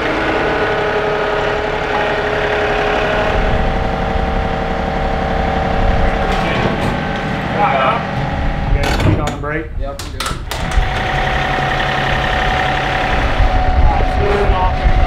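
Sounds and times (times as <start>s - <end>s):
tractor diesel engine running: 0.0s - 8.8s, 10.5s - 15.0s.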